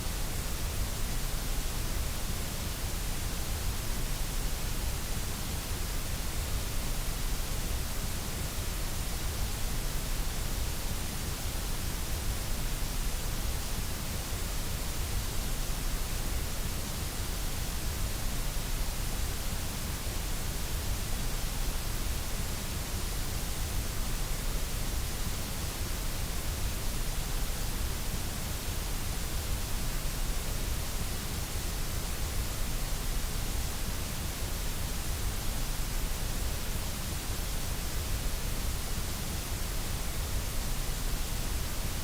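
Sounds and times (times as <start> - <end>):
white noise hiss: 0.0 - 42.0.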